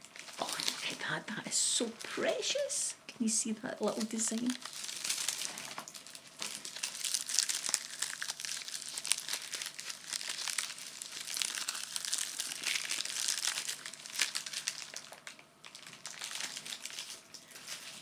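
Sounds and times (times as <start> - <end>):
wrapping paper crinkling: 0.0 - 1.1, 3.8 - 18.0.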